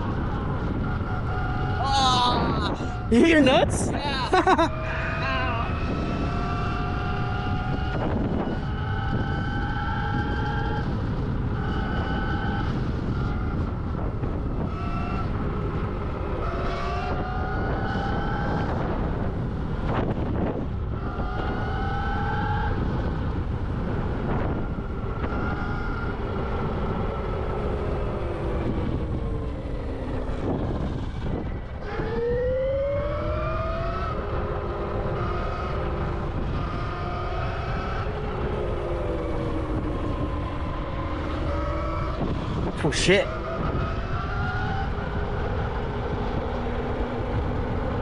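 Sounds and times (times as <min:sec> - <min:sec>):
wind on microphone: 0:00.0 - 0:48.0.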